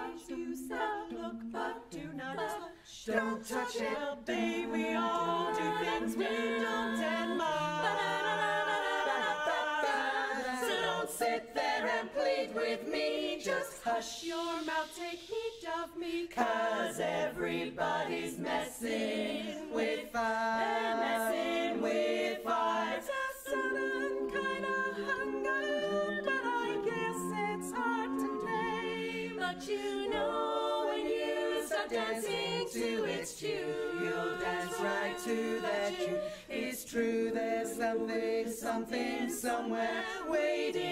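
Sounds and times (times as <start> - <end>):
women singing a cappella harmony: 0.0 - 40.9.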